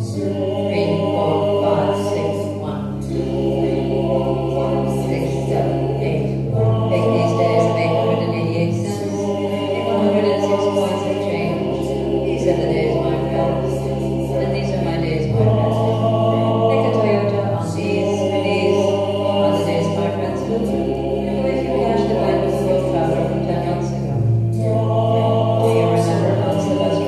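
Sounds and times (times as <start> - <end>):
choir singing held chords: 0.0 - 27.0
low sustained bass notes: 0.0 - 27.0.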